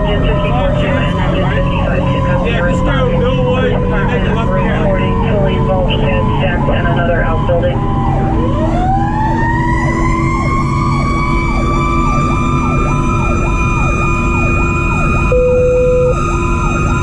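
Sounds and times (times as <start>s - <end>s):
diesel engine and road noise: 0.0s - 17.0s
electronic siren yelping: 0.0s - 17.0s
wailing siren: 0.0s - 17.0s.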